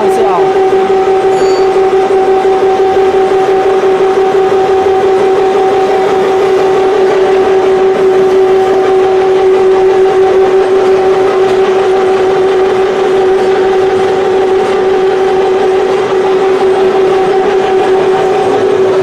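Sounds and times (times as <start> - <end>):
grinding machine humming: 0.0 - 19.0.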